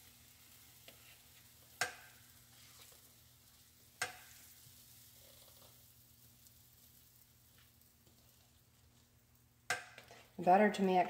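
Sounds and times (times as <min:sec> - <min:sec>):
faint sizzle of batter: 0:00.0 - 0:11.0.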